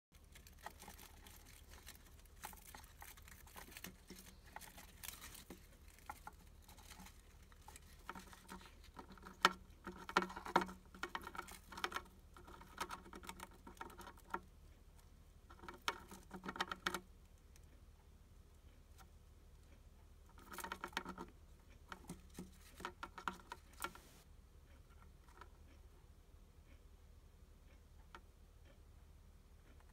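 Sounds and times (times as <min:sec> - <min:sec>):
hamster crunching and chewing: 0:00.1 - 0:26.8.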